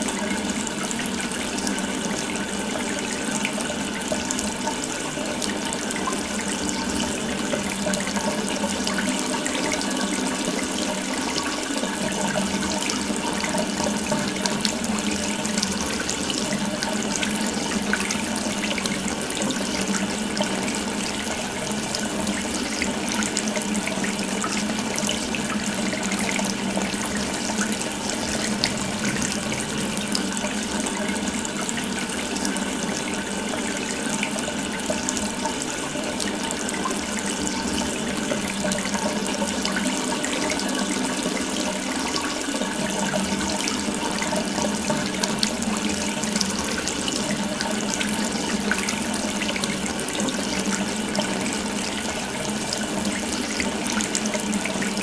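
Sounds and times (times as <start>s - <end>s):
tap water running: 0.0s - 55.0s.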